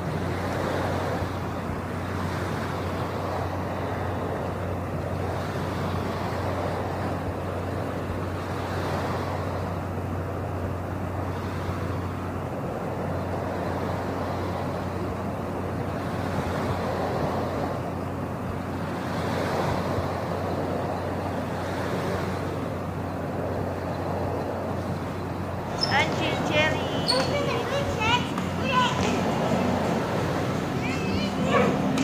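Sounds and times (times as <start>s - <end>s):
rushing background noise: 0.0s - 32.0s.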